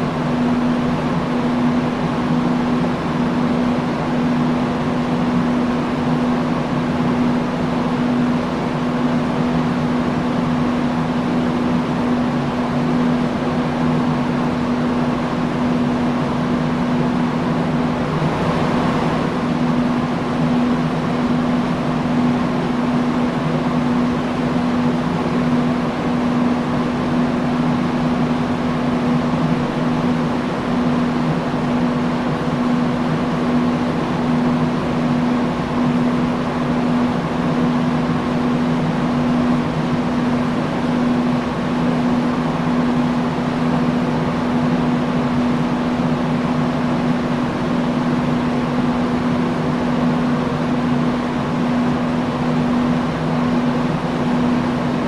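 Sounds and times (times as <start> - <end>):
industrial fan running: 0.0 - 55.0.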